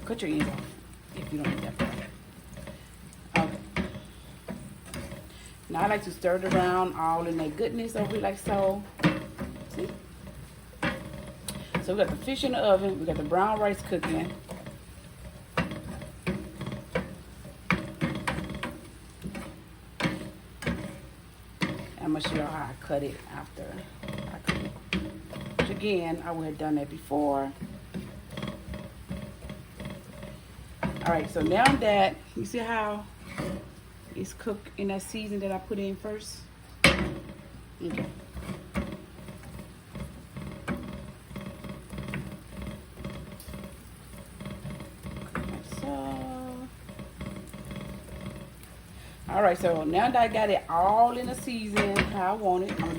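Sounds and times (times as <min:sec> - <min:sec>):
utensil clacking against a pan: 0:00.0 - 0:52.9.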